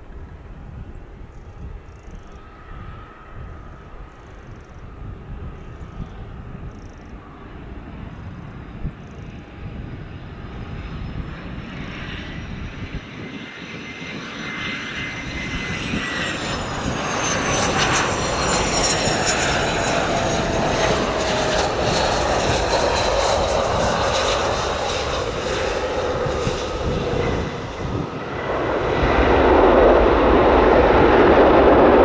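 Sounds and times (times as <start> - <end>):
jet engines whining and rushing: 0.0 - 32.0.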